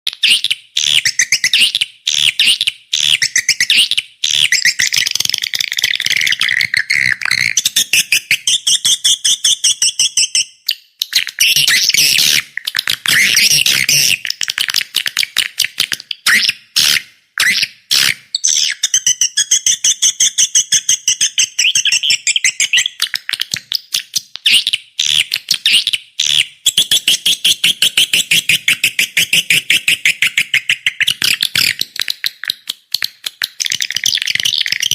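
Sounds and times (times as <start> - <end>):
swiftlet chirping and twittering: 0.1 - 34.9.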